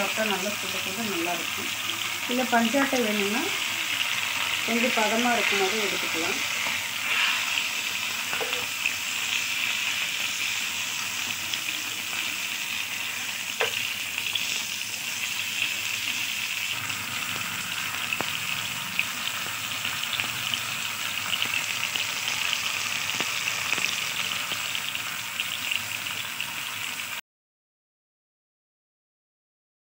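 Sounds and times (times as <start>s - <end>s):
fish sizzling in oil: 0.0s - 27.2s.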